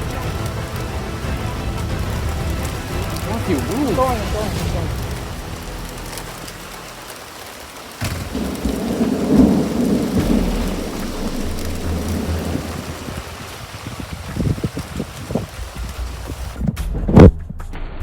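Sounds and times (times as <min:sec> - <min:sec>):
steady rain: 0:00.0 - 0:16.6
thunderclap rumbling: 0:00.0 - 0:17.4.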